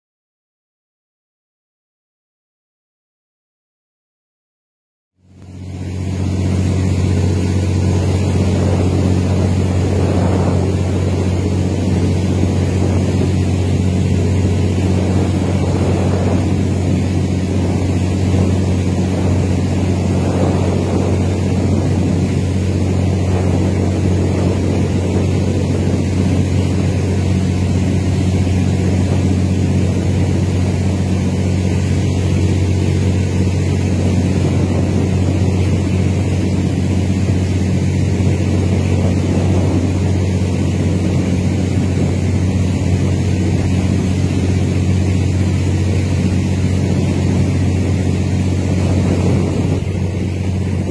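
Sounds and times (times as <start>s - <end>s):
boat engine droning: 5.2s - 50.9s.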